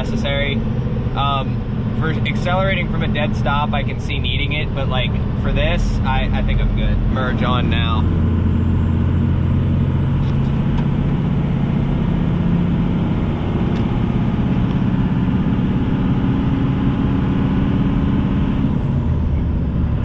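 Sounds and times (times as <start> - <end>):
diesel engine accelerating: 0.0 - 20.0.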